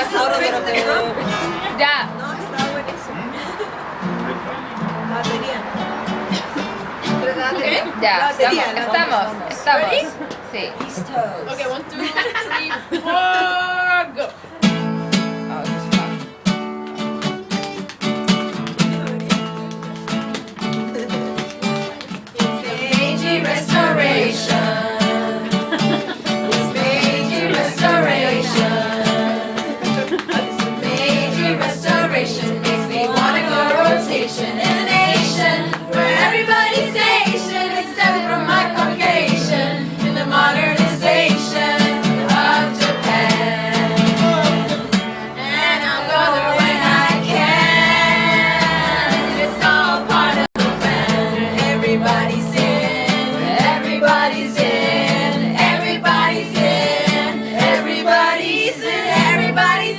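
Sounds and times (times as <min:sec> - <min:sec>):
guitar accompaniment: 0:00.0 - 0:10.2, 0:14.1 - 0:59.9
voices singing: 0:00.0 - 0:16.5, 0:18.6 - 0:59.9.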